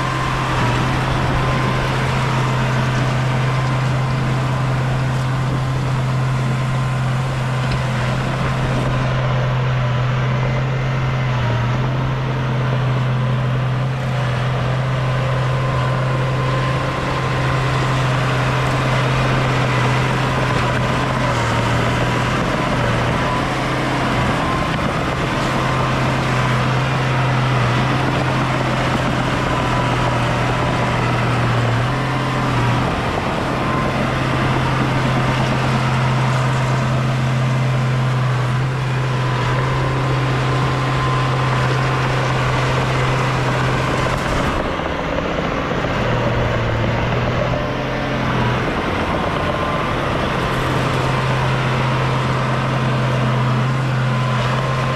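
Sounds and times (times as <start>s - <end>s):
diesel machinery engine drone: 0.0s - 54.9s.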